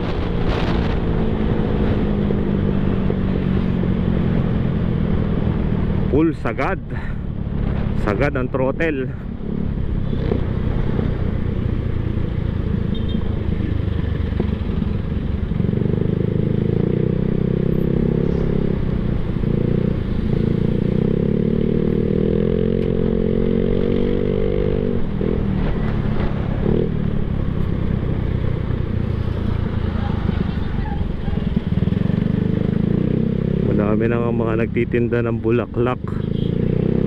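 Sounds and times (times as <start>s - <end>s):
constant rumble: 0.0s - 36.5s.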